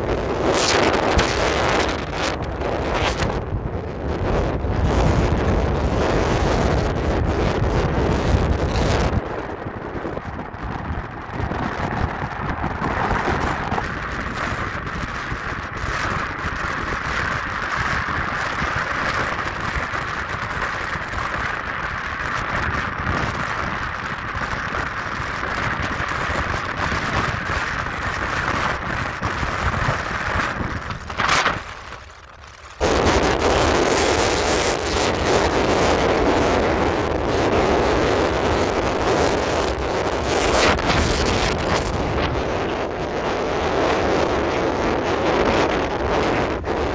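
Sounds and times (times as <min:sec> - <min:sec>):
wind rumbling on microphone: 0:00.0 - 0:46.9.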